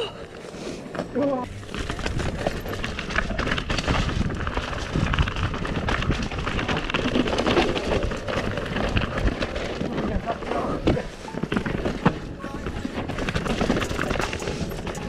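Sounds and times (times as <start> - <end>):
bike rattling: 0.2 - 15.0
tyres crackling over gravel: 0.2 - 15.0.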